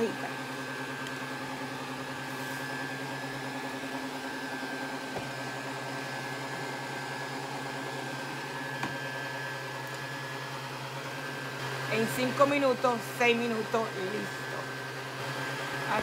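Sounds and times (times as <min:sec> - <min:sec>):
hair dryer blower humming: 0:00.0 - 0:16.0.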